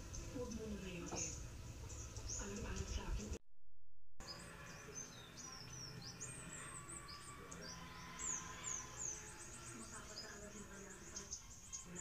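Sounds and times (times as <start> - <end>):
birds chirping: 0.0 - 3.4, 4.2 - 12.0.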